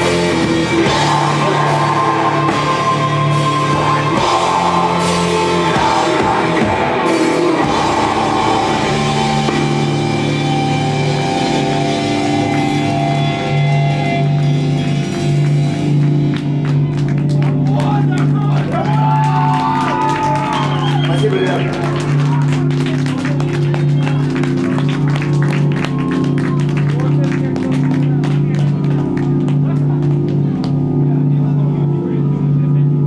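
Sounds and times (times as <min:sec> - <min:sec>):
rock band playing: 0:00.0 - 0:31.3.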